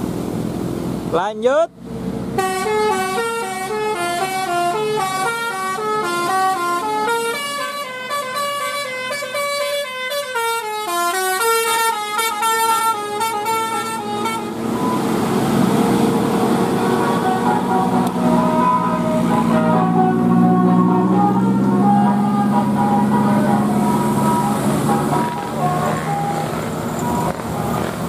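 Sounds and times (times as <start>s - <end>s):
bus engine: 0.0s - 28.0s
traffic noise: 0.0s - 28.0s
multi-tone bus horn melody: 2.3s - 28.0s.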